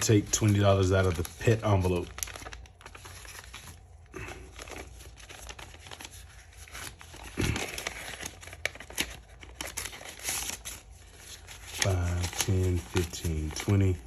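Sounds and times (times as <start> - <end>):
paper money rustling: 0.0 - 14.0.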